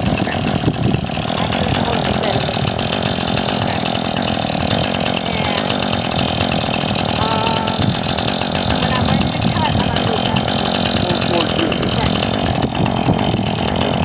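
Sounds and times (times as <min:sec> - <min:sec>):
chainsaw cutting log: 0:00.0 - 0:14.0.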